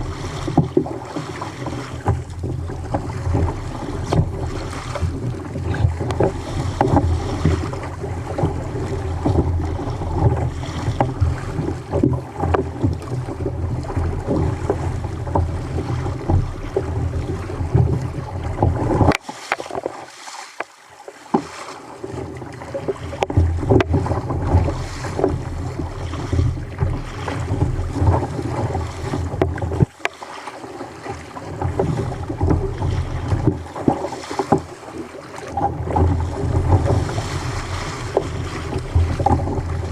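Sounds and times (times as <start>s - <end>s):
sea water moving: 0.0s - 39.9s.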